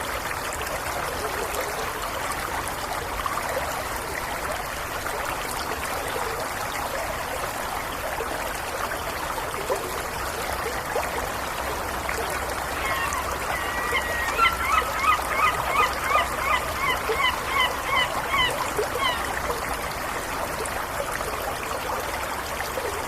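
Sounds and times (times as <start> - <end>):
stream water trickling and gurgling: 0.0 - 23.0.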